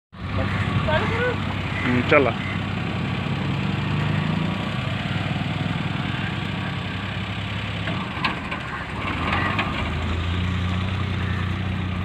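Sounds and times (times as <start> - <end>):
car engine idling: 0.2 - 12.0.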